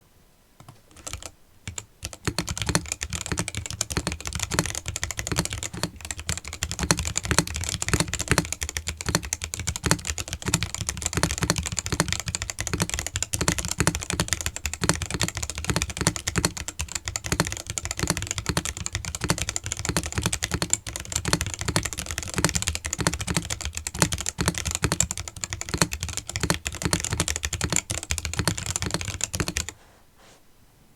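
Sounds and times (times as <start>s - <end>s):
mechanical keyboard typing: 0.6s - 29.8s.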